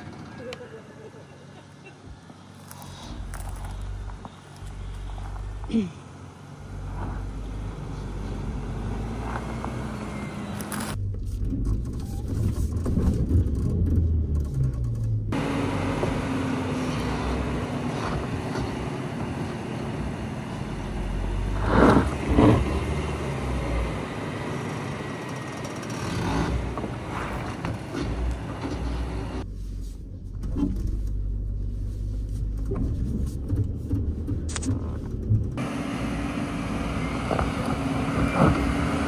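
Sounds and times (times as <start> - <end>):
vehicle rumbling off-road: 0.0 - 39.0.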